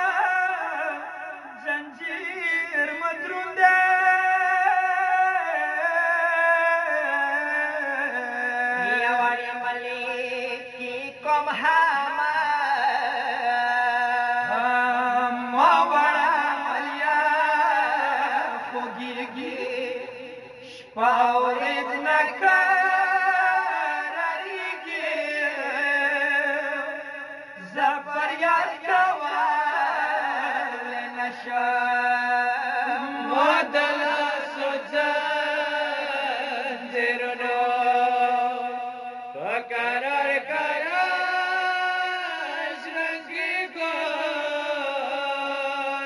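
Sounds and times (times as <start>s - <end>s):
men singing mournful lament: 0.0s - 46.0s.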